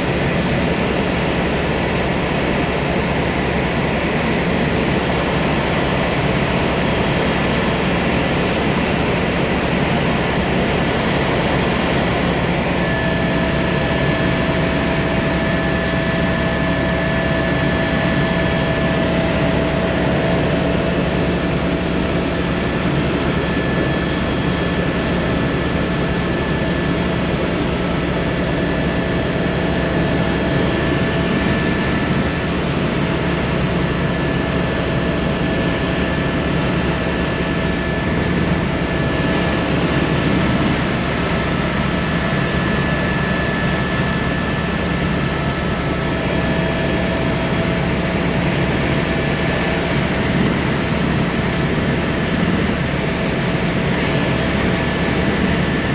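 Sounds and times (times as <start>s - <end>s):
helicopter engine and rotor drone: 0.0s - 55.9s
thin constant whine: 0.0s - 55.9s.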